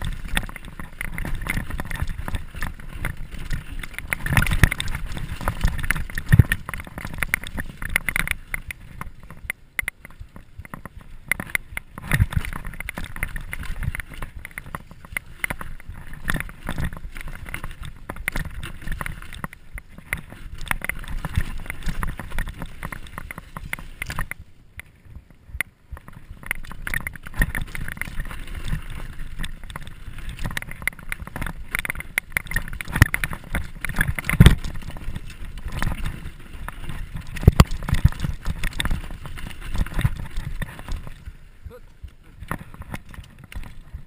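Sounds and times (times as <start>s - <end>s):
mountain bike rattling downhill: 0.0s - 44.0s.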